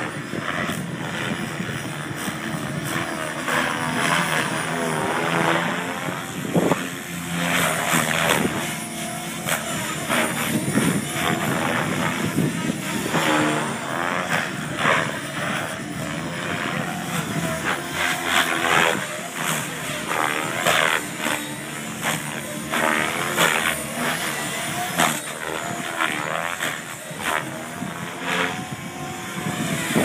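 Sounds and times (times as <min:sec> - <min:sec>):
electric motor whine: 0:00.0 - 0:30.0
rotor blades whooshing: 0:00.0 - 0:30.0.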